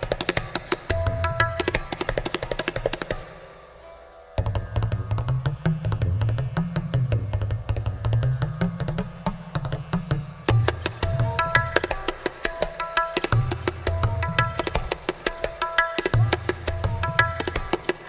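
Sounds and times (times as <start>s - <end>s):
tabla fast galloping pattern: 0.0s - 3.5s, 4.4s - 18.0s.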